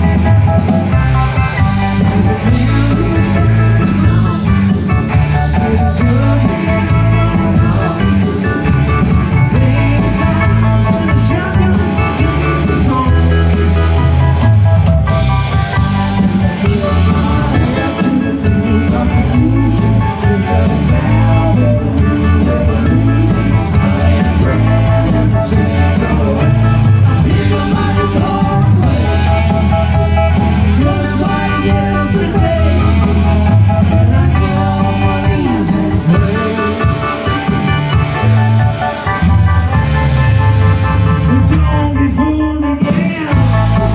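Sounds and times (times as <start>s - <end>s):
bass guitar: 0.0s - 43.9s
drum kit: 0.0s - 43.9s
electric guitar: 0.0s - 43.9s
person singing: 1.4s - 43.9s.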